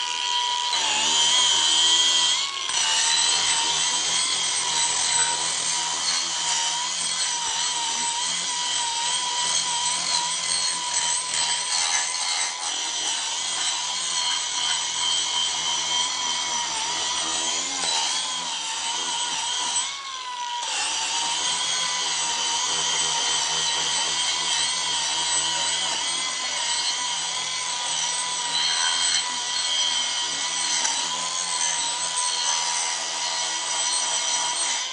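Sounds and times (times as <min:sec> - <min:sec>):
rasping on wood: 0:00.0 - 0:20.0, 0:20.6 - 0:34.7
angle grinder motor whine: 0:00.0 - 0:34.9.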